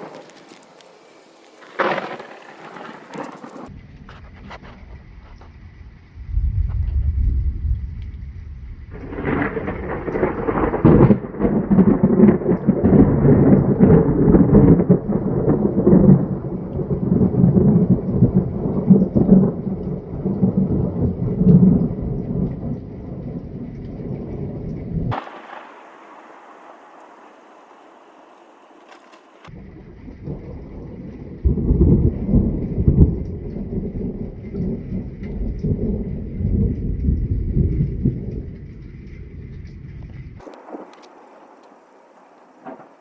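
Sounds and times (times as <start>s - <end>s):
faint steady hiss: 0.0s - 43.0s
thunder rumbling and crackling: 0.0s - 43.0s.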